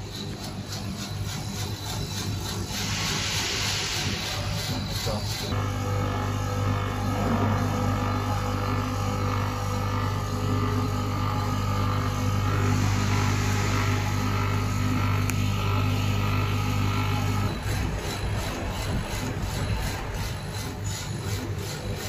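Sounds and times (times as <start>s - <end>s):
laser cutter humming and hissing: 0.0s - 22.0s.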